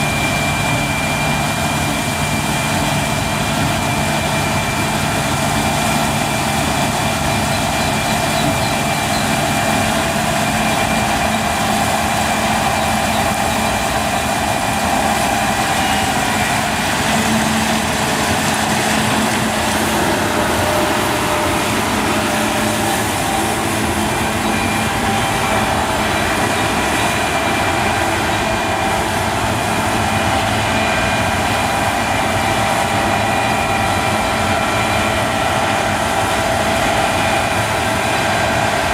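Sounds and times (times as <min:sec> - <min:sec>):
combine harvester drone: 0:00.0 - 0:38.9
machinery whining tones: 0:00.0 - 0:38.9.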